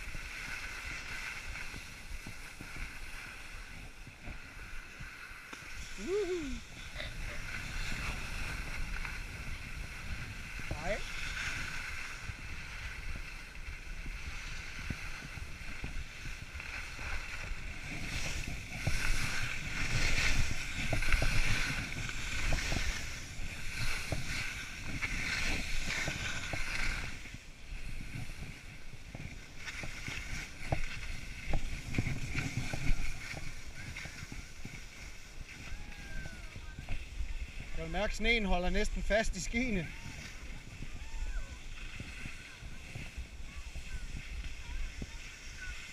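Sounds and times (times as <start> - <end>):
skis scraping over snow: 0.0 - 45.9
wind rumbling on microphone: 0.0 - 45.9.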